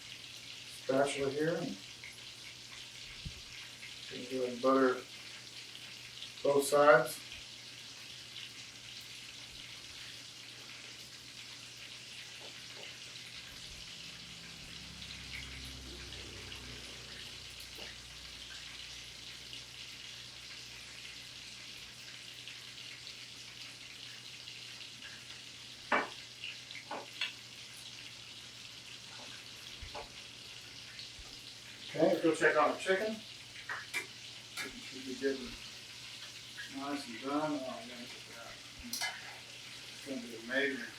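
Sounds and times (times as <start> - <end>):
faint sizzling hiss: 0.0 - 40.9.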